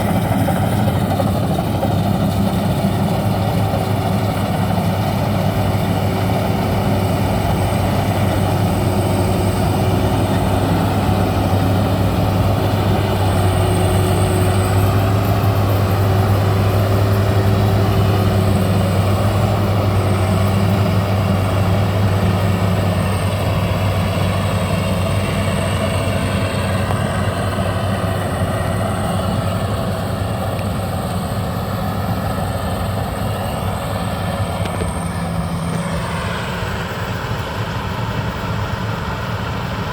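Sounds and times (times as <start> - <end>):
combine harvester engine humming: 0.0 - 39.9.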